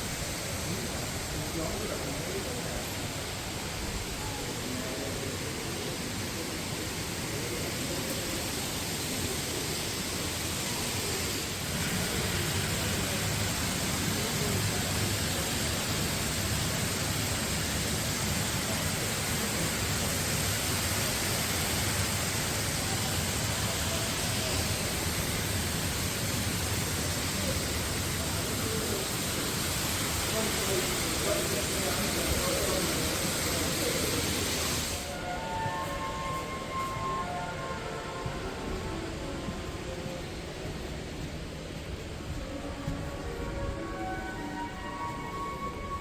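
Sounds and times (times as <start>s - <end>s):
city street noise: 0.0s - 46.0s
rain hissing: 0.0s - 46.0s.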